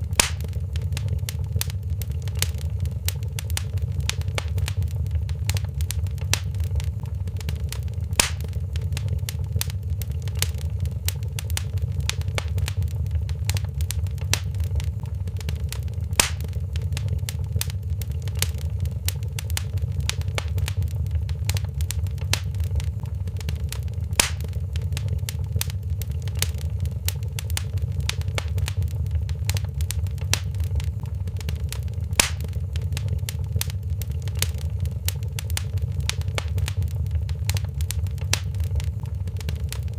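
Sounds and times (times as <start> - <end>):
loud fire pops: 0.0 - 39.9
low fire rumble: 0.0 - 39.9
wood fire crackling: 0.0 - 39.9.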